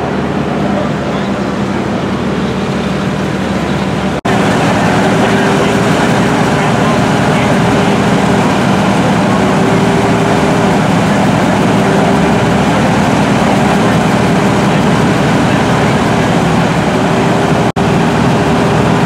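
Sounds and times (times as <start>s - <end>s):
fire engine pump motors droning: 0.0s - 19.0s.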